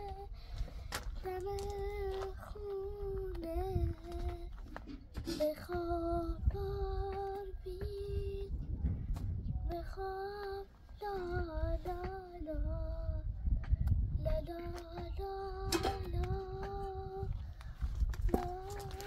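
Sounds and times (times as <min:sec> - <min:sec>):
high voice singing unaccompanied: 0:00.0 - 0:00.4, 0:01.0 - 0:08.9, 0:09.5 - 0:19.0.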